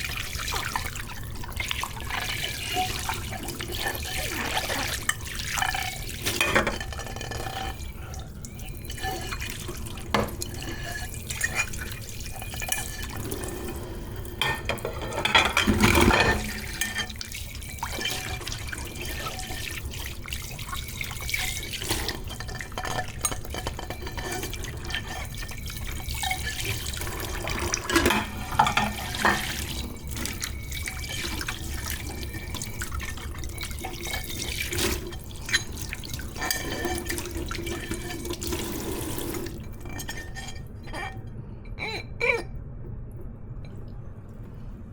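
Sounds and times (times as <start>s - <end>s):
tap water running and splashing: 0.0s - 41.0s
dishes clinking: 1.7s - 42.5s.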